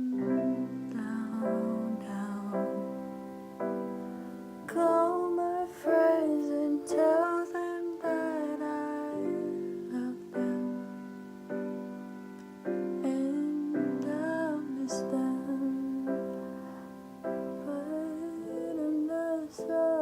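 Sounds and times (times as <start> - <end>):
woman singing wordlessly: 0.0 - 3.6, 4.6 - 11.2, 12.8 - 16.6, 17.2 - 20.0
slow piano chords: 0.0 - 20.0.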